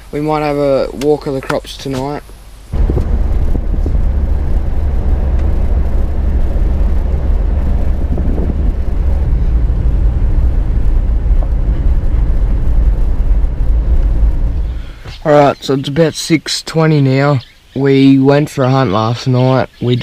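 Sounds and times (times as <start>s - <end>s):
engine and tyres rumbling: 0.0s - 16.2s.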